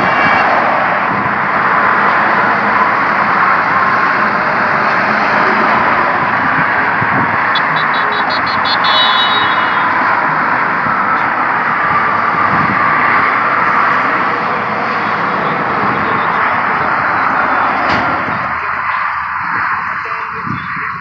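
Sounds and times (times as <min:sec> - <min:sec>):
road traffic roar: 0:00.0 - 0:21.0.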